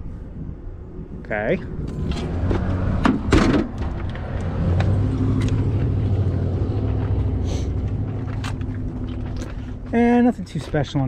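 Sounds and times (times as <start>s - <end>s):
vehicle engine humming: 1.6s - 11.0s.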